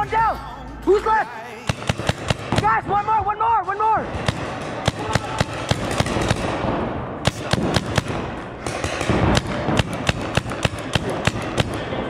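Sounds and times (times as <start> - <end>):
paintball markers firing: 1.7 - 12.0.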